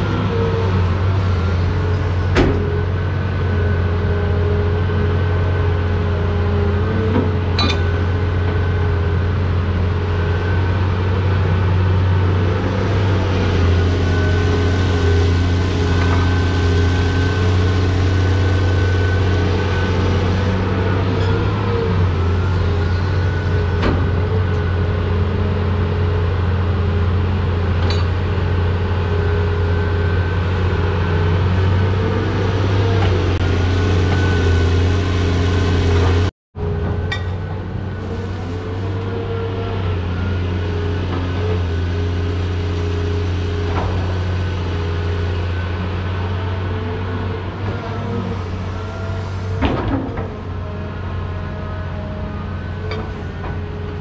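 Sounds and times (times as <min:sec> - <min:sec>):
excavator diesel engine running: 0:00.0 - 0:54.0
hydraulic whine: 0:00.0 - 0:54.0.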